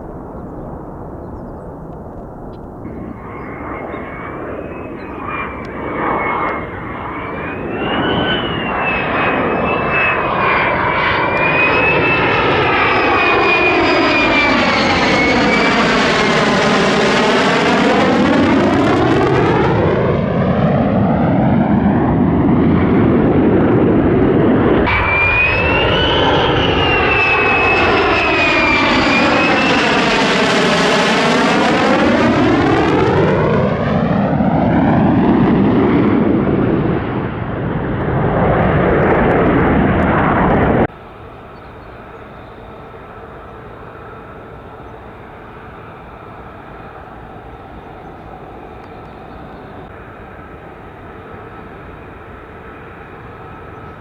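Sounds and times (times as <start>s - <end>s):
fighter jet roaring past: 0.0s - 54.0s.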